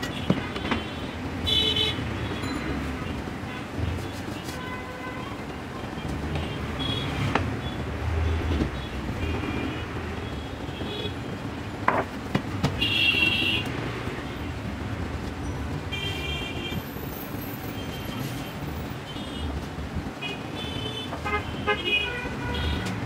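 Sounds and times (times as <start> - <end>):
traffic engines rumbling: 0.0 - 23.0.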